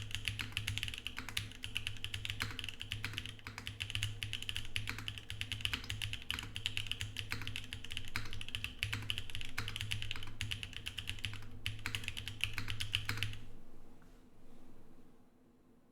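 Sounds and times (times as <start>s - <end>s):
mechanical keyboard typing: 0.0s - 13.4s.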